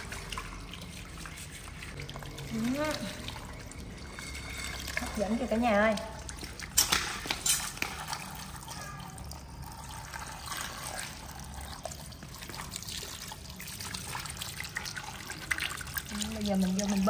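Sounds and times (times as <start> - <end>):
water pouring and trickling: 0.0 - 17.0.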